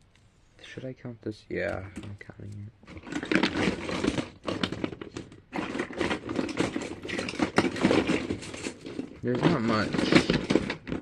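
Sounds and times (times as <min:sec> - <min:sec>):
plastic toys clattering and clicking: 0:01.7 - 0:11.0.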